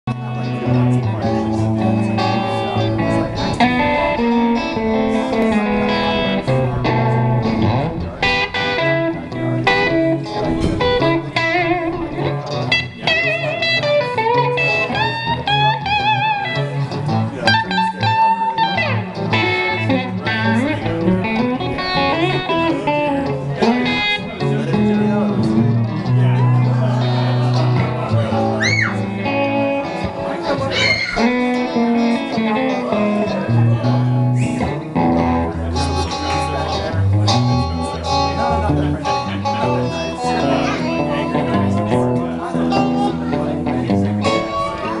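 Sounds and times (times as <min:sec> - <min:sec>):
electric guitars playing blues: 0:00.0 - 0:45.0.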